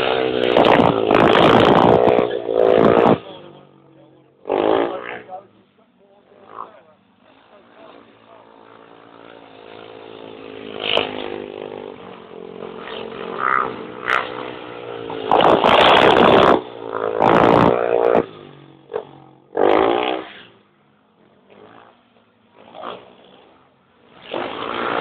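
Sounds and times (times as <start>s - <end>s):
motorcycle engines revving and passing: 0.0s - 25.0s.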